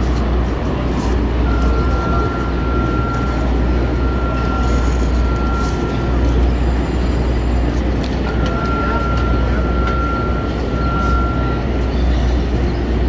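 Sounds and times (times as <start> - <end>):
low city rumble: 0.0 - 13.0
thin high whine: 1.0 - 12.3.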